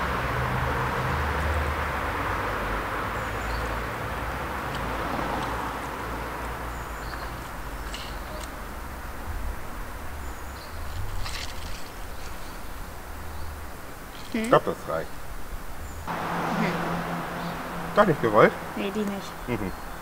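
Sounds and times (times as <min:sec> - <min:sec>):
passing traffic hum: 0:00.0 - 0:20.0
bird chirping: 0:03.1 - 0:20.0.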